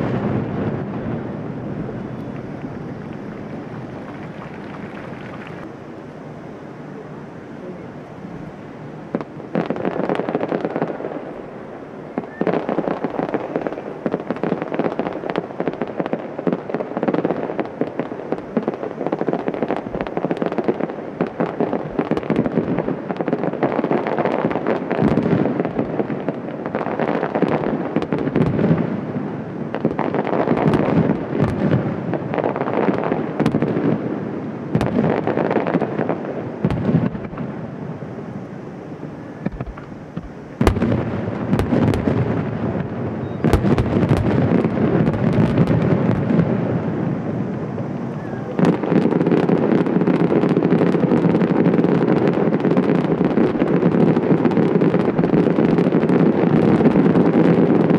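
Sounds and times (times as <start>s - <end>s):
distant fireworks bursts and booms: 0.0s - 57.9s.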